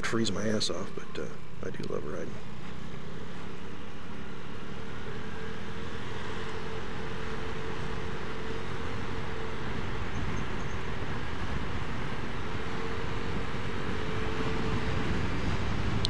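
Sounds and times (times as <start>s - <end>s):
scooter engine running: 0.0s - 16.0s
wind and road noise: 0.0s - 16.0s.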